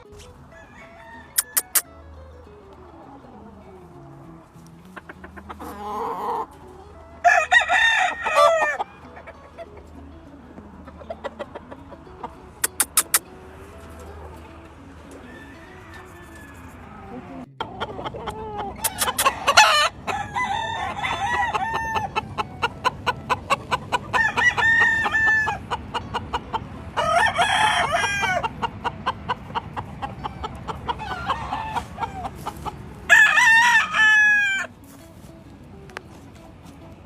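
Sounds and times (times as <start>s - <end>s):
roosters crowing: 0.0s - 2.0s, 2.6s - 35.4s.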